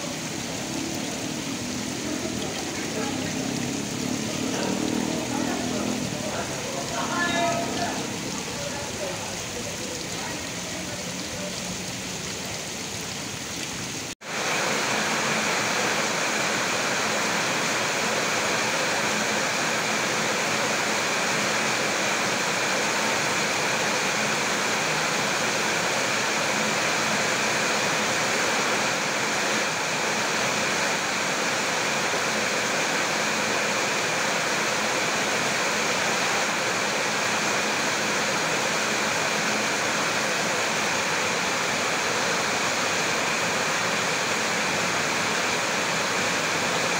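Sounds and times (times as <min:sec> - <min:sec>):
heavy rain on a metal roof: 0:00.0 - 0:46.9
water pouring off roof edge: 0:00.0 - 0:46.9.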